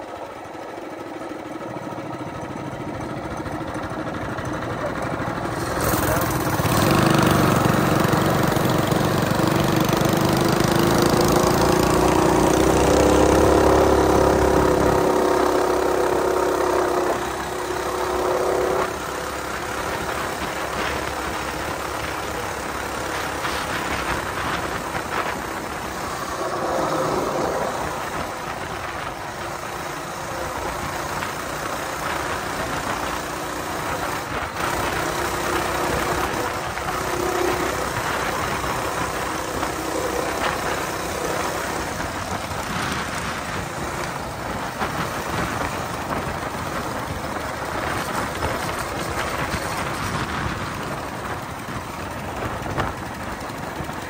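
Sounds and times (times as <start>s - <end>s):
small engine running: 0.0s - 54.0s
wind and road noise: 0.0s - 54.0s.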